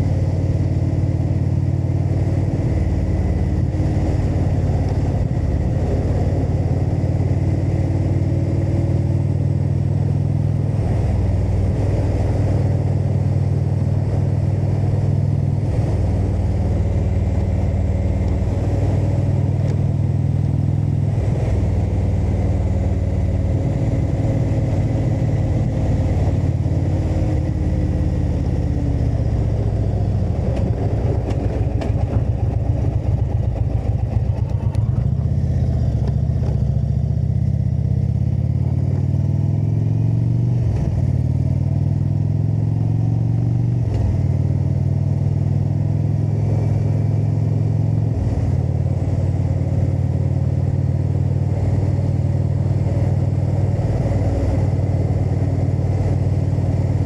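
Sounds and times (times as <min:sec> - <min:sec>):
v-twin motorcycle engine revving: 0:00.0 - 0:57.0.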